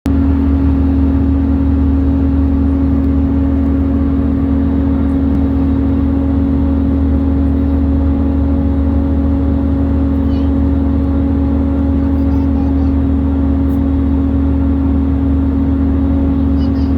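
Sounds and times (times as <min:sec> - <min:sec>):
aircraft cabin drone: 0:00.0 - 0:16.9.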